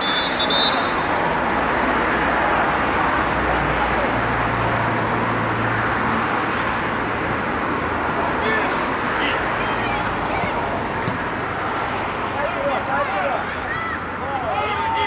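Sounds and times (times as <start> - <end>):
distant voices: 0.0 - 15.0.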